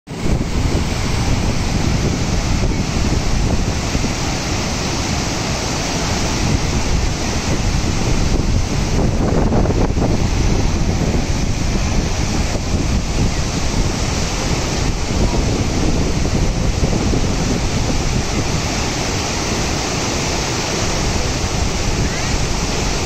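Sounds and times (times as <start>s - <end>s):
river rapids rushing over boulders: 0.1s - 23.0s.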